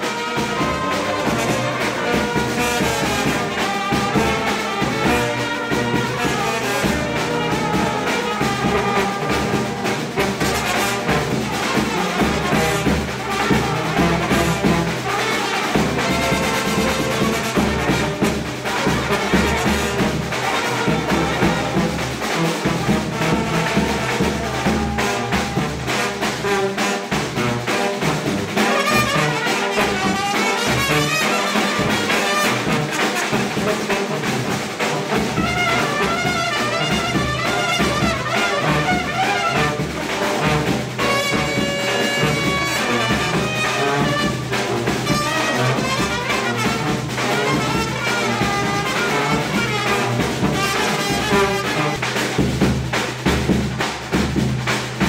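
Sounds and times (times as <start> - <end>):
steady beat: 0.0 - 50.8
brass band playing: 0.0 - 55.0
trumpets: 0.0 - 55.0.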